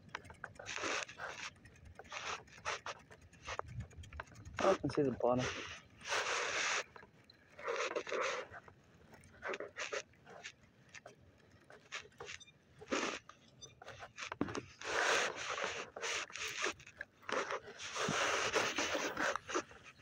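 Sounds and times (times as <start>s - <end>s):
handling noise rustling and scraping: 0.0s - 20.0s.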